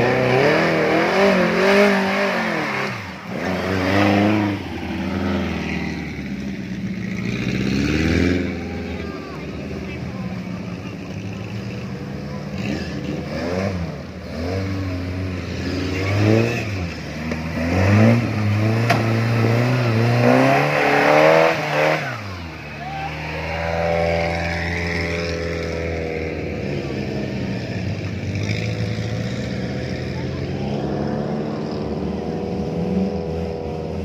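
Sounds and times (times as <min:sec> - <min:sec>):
off-road engine revving: 0:00.0 - 0:34.0.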